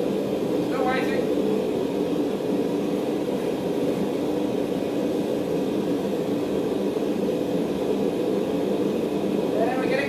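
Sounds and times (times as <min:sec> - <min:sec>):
forge burner rushing: 0:00.0 - 0:10.0.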